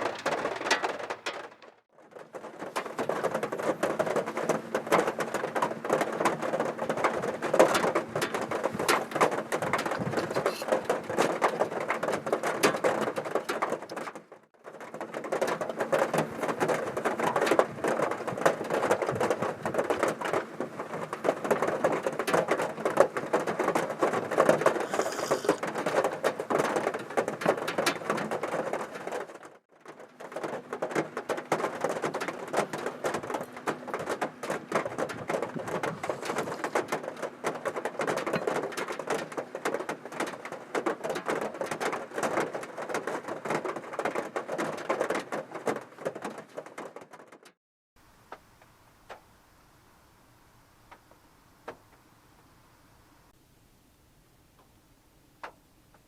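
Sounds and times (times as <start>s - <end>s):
heavy rain on car roof: 0.0s - 14.2s, 14.8s - 47.2s.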